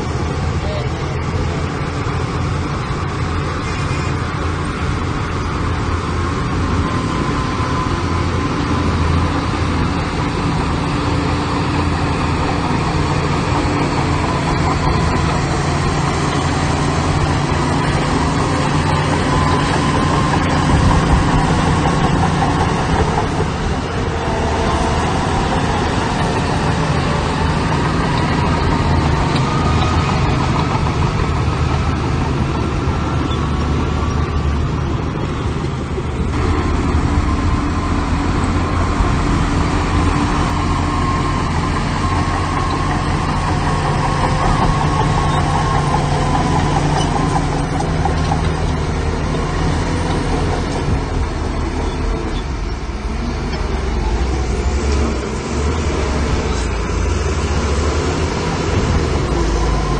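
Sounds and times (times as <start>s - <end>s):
diesel machinery engines humming: 0.0s - 59.9s.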